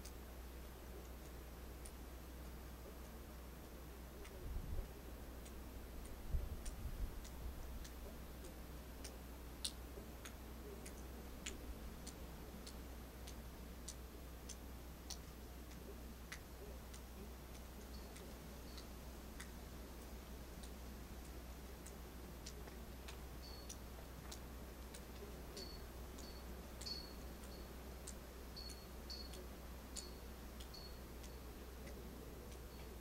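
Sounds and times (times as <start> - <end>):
faint regular ticking: 0.0 - 33.0.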